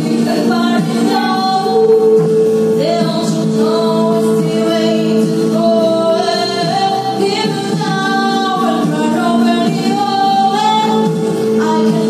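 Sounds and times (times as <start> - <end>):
girl singing into microphone: 0.0 - 12.0
instrumental backing track: 0.0 - 12.0.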